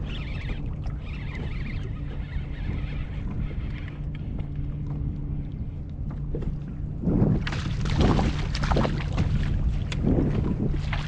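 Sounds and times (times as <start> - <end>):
steady low hum: 0.0 - 11.0
water splashing against kayak: 0.0 - 11.0
wind noise: 0.0 - 11.0.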